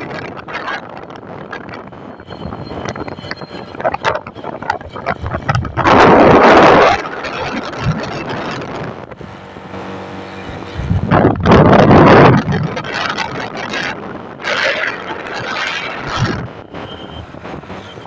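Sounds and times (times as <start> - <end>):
low engine hum: 0.0 - 18.0
road and wind noise: 0.0 - 18.0.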